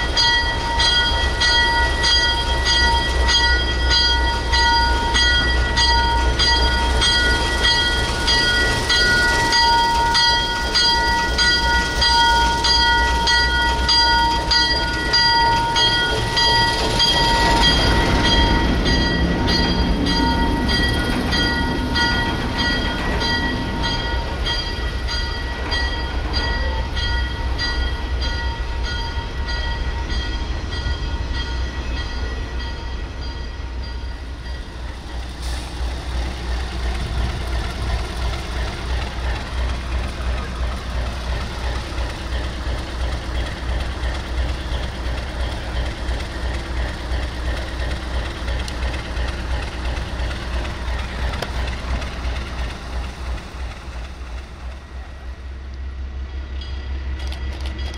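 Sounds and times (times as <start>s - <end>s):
locomotive rumble: 0.0s - 57.9s
railroad bell ringing: 0.0s - 57.9s.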